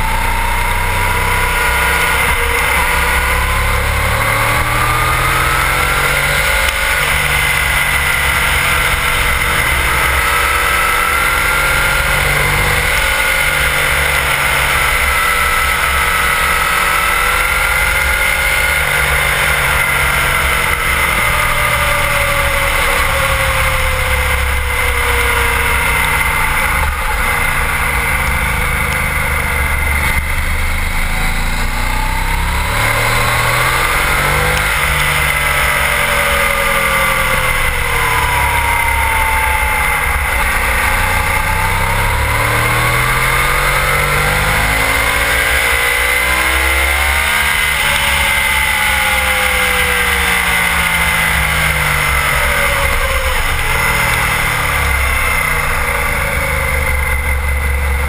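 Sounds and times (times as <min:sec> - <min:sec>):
motorcycle engine: 0:00.0 - 0:58.0
steady high whine: 0:00.0 - 0:58.0.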